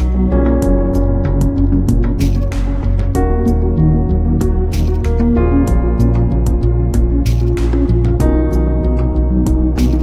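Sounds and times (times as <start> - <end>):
instrumental music with heavy bass: 0.0 - 10.0.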